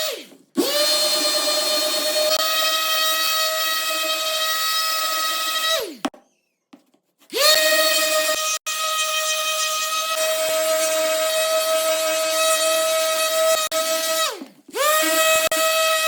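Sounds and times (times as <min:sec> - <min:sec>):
electric power tool motor whining: 0:00.0 - 0:06.0, 0:07.4 - 0:16.0.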